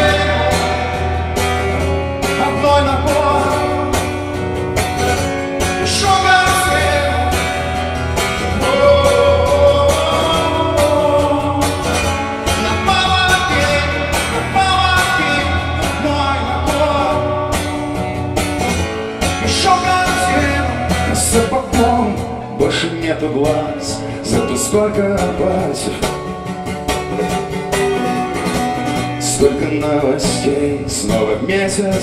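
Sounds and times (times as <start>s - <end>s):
live rock band with guitar: 0.0s - 32.0s.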